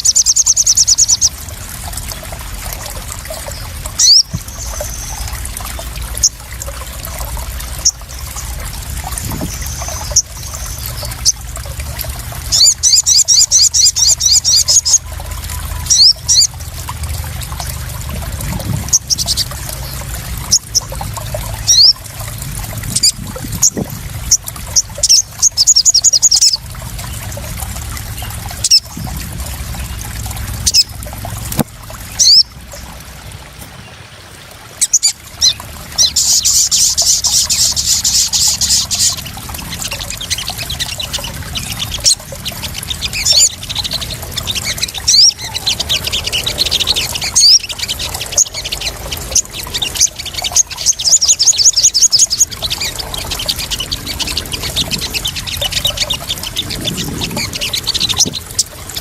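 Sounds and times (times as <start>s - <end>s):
bird chirps and trills: 0.0s - 34.1s, 34.8s - 59.0s
water trickling and splashing: 0.0s - 59.0s.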